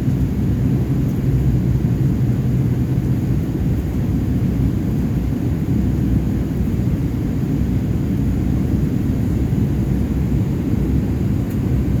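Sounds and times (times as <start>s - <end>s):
airliner engine rumble in cabin: 0.0s - 12.0s.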